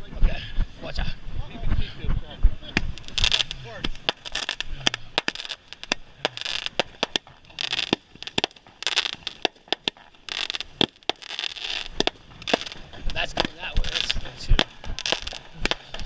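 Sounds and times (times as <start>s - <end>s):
fireworks cracking and popping: 2.1s - 16.0s
hissing crackle bursts: 2.6s - 16.0s.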